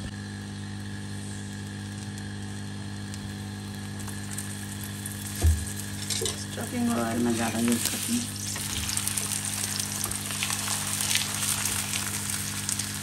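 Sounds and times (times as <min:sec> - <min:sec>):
steady low hum: 0:00.0 - 0:13.0
flatbread sizzling on griddle: 0:00.2 - 0:13.0.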